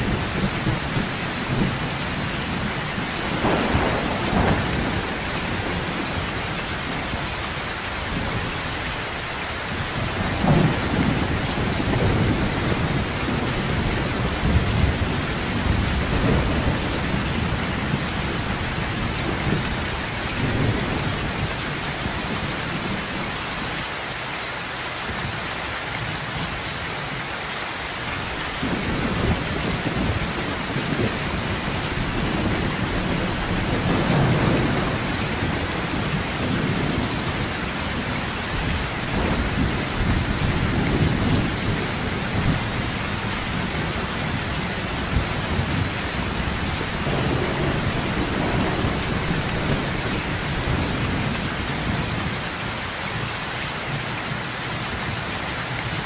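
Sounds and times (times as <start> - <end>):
thunder rumbling: 0.0 - 8.8, 9.7 - 23.4, 28.2 - 52.4
heavy rain on metal roof: 0.0 - 56.0.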